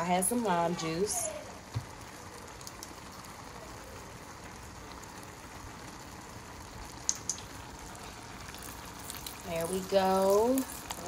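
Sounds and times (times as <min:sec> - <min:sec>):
food sizzling in pots: 0:00.0 - 0:11.0.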